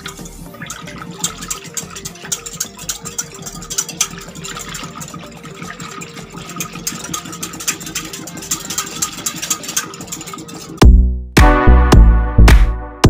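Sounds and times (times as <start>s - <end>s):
liquid batter swishing: 0.0s - 10.8s
whisk clicking against glass bowl: 0.0s - 10.8s.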